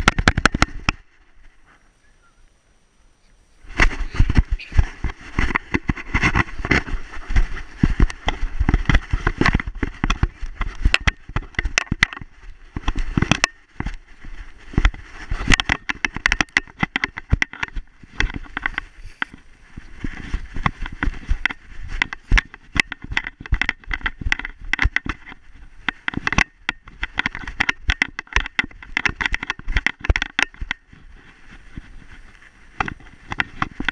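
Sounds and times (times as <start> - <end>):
camera knocking against harness: 0.0 - 1.0, 3.7 - 14.0, 14.7 - 31.0, 32.7 - 33.9.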